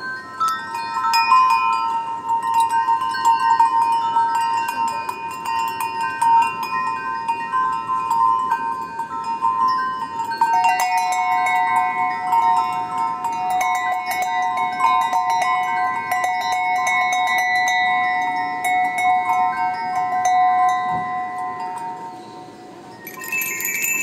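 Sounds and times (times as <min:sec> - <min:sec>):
sustained chime-like notes: 0:00.0 - 0:24.0.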